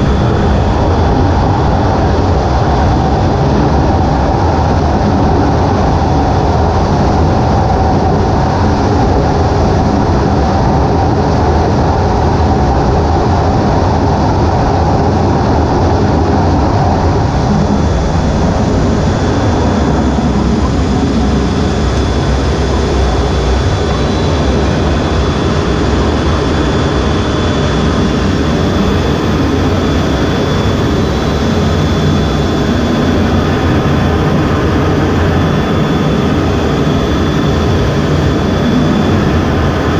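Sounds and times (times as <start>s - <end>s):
faint high whine: 0.0s - 39.9s
jet engine roar: 0.0s - 39.9s.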